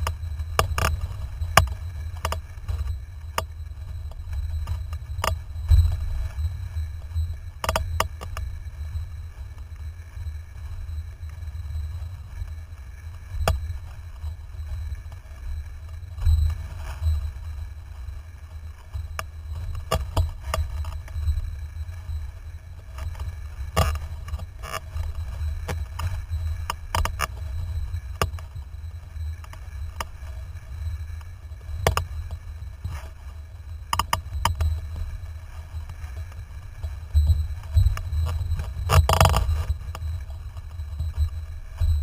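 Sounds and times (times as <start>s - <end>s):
wind and water rumble: 0.0s - 42.0s.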